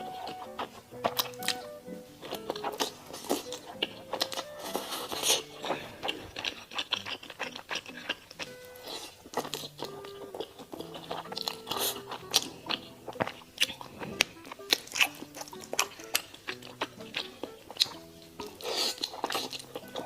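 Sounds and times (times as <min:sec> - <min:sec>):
crisp chicken crunching: 0:00.0 - 0:20.0
soft background music: 0:00.0 - 0:20.0.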